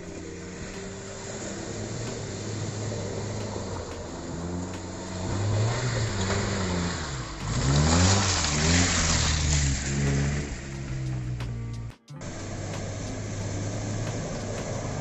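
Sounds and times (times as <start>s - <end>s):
off-road vehicle engine revving: 0.0s - 15.0s
tyres spraying mud: 0.0s - 15.0s.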